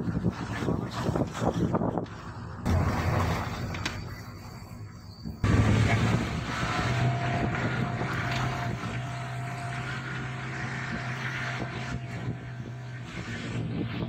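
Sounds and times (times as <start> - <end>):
tyre and road noise: 0.0 - 14.0
car engine in cabin: 2.6 - 14.0.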